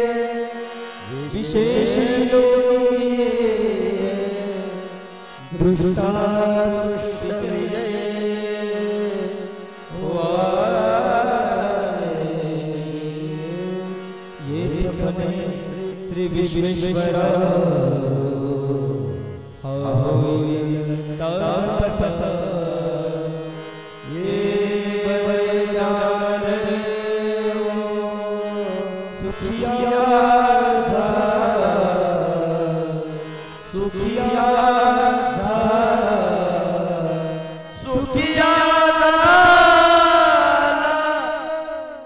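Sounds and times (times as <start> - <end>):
man singing a devotional chant: 0.0 - 42.0.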